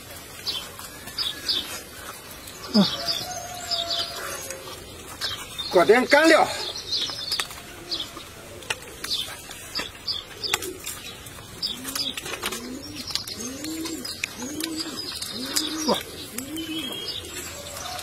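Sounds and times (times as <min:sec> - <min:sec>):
people eating and chewing: 0:00.0 - 0:18.0
small birds chirping: 0:00.0 - 0:18.0
dove cooing: 0:00.4 - 0:05.6, 0:06.5 - 0:18.0.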